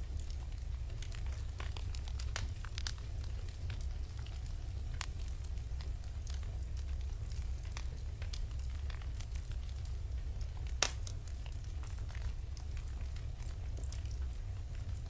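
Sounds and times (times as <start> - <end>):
fire crackles and pop: 0.0 - 15.0
fire flames rumbling: 0.0 - 15.0.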